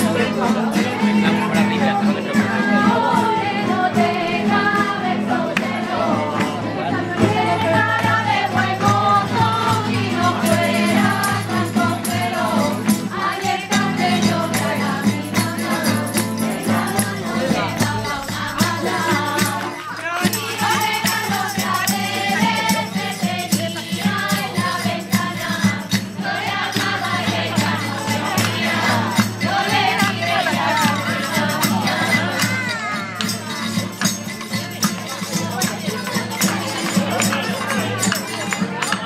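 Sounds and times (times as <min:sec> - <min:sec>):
group of voices singing: 0:00.0 - 0:39.0
hand percussion: 0:00.0 - 0:39.0
strummed acoustic guitars: 0:00.0 - 0:39.0.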